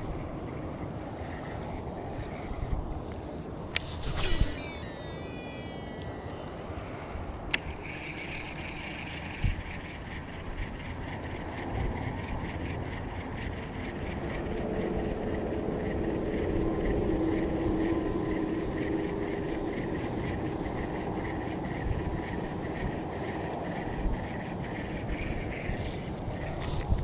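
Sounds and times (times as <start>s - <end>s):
distant engine drone: 0.0s - 27.0s
wind rumbling on microphone: 0.0s - 27.0s.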